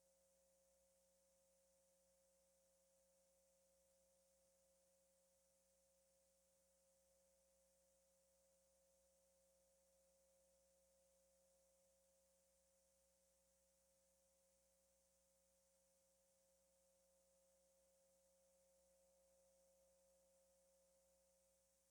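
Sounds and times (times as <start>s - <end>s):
faint steady tone: 0.0s - 21.9s.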